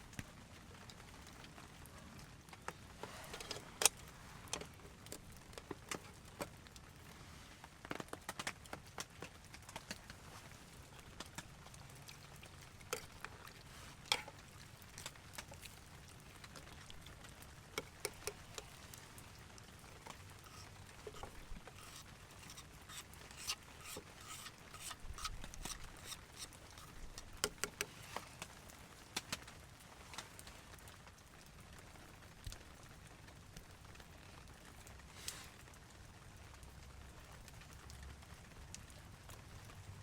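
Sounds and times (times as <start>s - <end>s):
faint steady hiss: 0.0s - 40.0s
raindrops pattering: 0.0s - 40.0s.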